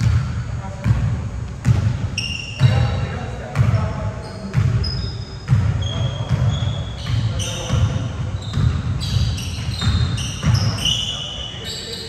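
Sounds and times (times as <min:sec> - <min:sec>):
basketball dribbling on gym floor: 0:00.0 - 0:11.2
sneakers squeaking: 0:00.0 - 0:12.0.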